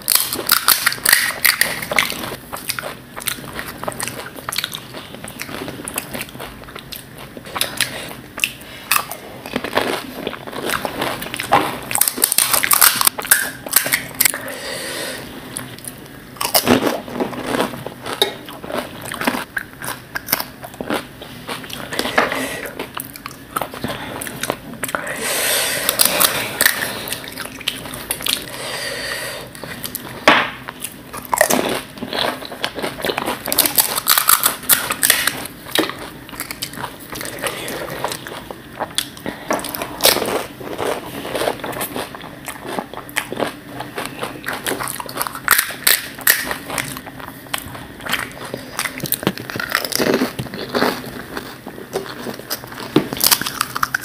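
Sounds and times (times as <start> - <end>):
crunching and chewing: 0.0 - 14.6, 15.5 - 25.1, 25.8 - 28.6, 29.5 - 54.0.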